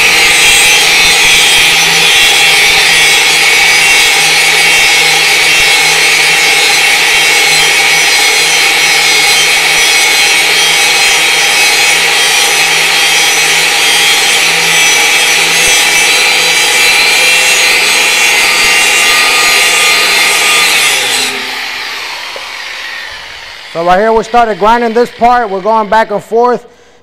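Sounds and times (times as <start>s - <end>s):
grinder motor winding down: 0.0s - 26.2s
angle grinder cutting steel: 0.0s - 26.4s.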